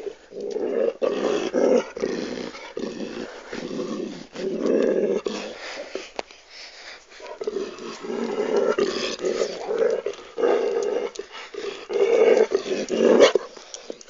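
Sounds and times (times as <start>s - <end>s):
dog growling: 0.0s - 6.1s, 7.2s - 14.0s.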